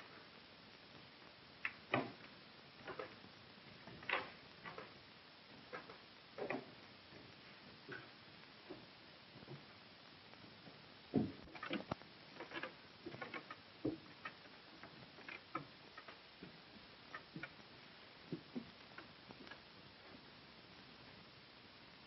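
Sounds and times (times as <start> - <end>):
old film soundtrack hiss: 0.0 - 22.0.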